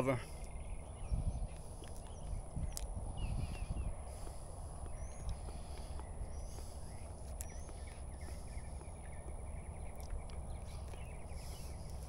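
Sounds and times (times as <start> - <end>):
bird chirps: 0.0 - 12.0
chirping ticks: 0.0 - 12.0
wind on microphone: 0.3 - 12.0.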